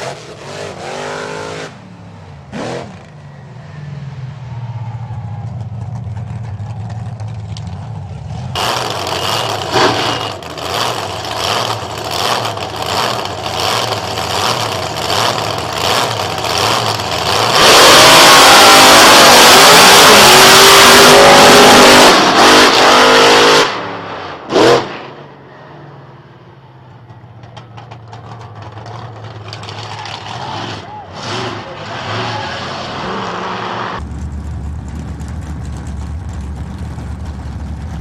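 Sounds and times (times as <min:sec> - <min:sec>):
truck engine idling and revving: 0:00.0 - 0:38.0.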